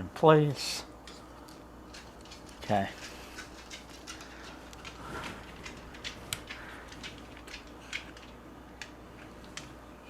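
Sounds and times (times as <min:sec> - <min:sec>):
light clicks and taps: 0:01.0 - 0:09.8.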